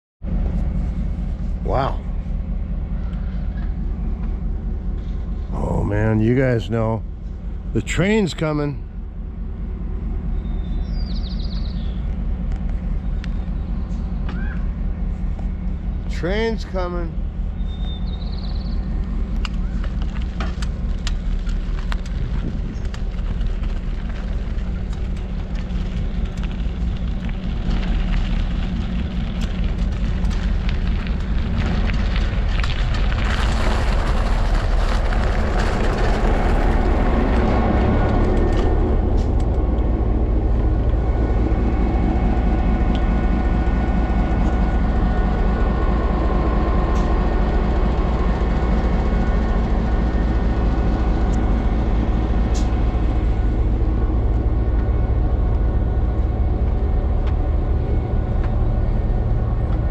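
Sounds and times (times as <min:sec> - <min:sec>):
steady whining tones: 0:00.2 - 0:59.9
train rumble: 0:00.2 - 0:59.9.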